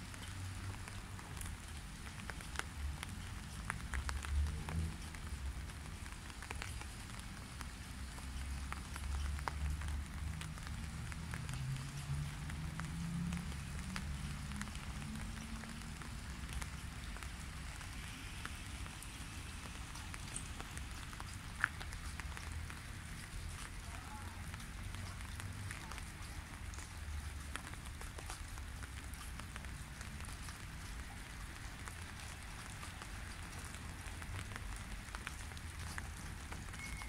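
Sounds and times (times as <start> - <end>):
rain dripping into a puddle: 0.0 - 37.0.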